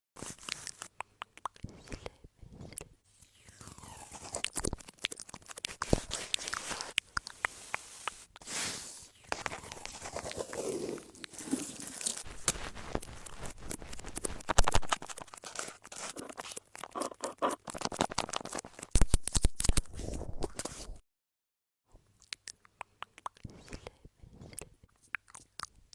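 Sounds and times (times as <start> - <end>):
crackling and crinkling: 0.2 - 21.0.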